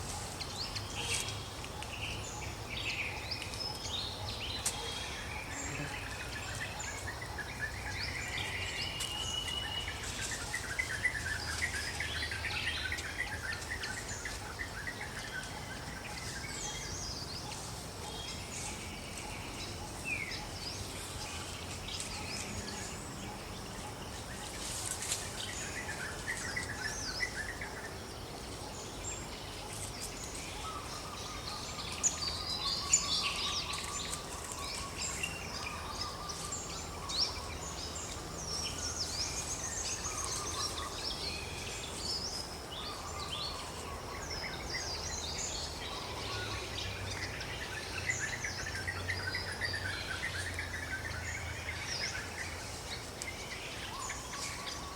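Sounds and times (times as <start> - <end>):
birds chirping and trilling: 0.0 - 54.9
steady background hiss: 0.0 - 54.9.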